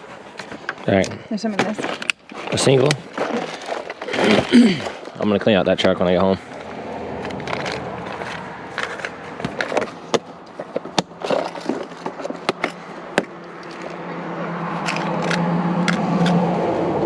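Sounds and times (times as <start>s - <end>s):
engine hum: 0.0s - 17.0s
fishing gear clattering: 0.3s - 5.6s, 6.4s - 16.4s.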